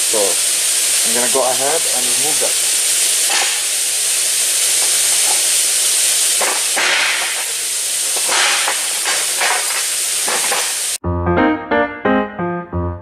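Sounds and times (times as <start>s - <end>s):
loud steady hiss: 0.0s - 11.0s.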